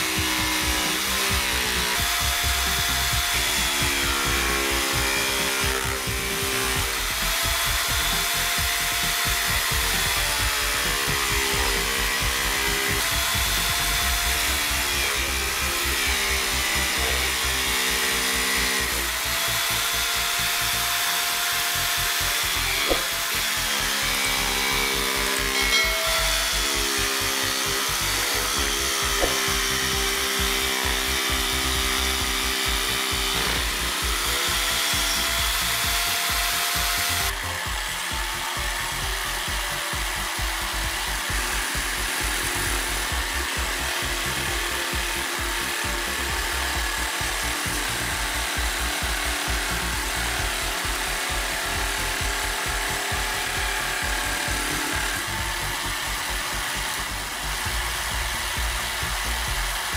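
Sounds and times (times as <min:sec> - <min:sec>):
jigsaw cutting wood: 0:00.0 - 0:59.9.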